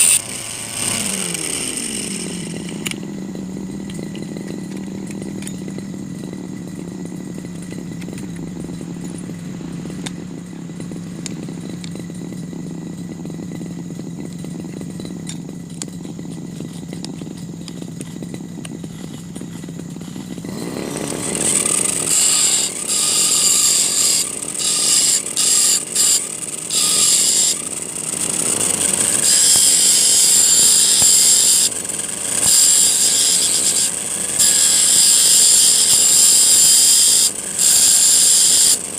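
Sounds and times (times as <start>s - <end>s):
brush cutter humming: 0.0s - 38.9s
harsh metal grinding: 0.0s - 38.9s.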